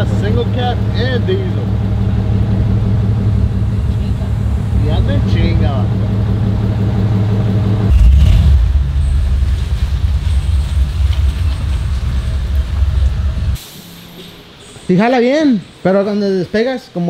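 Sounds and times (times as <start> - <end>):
pickup truck engine humming: 0.0 - 14.8.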